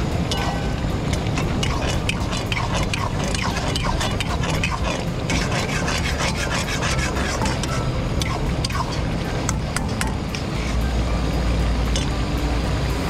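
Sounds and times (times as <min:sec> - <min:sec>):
steady low rumble: 0:00.0 - 0:13.0
metal spatula scraping a wok: 0:00.3 - 0:10.9.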